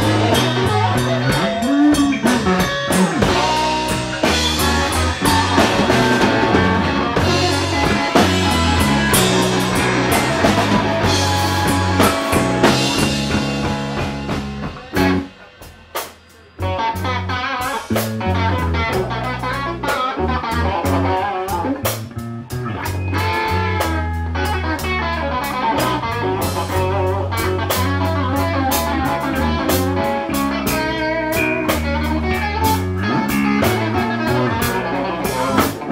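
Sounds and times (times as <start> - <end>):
blues band playing: 0.0 - 35.9.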